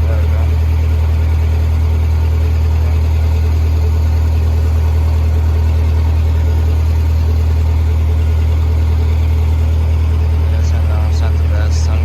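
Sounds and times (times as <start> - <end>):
welder engine humming: 0.0 - 12.0.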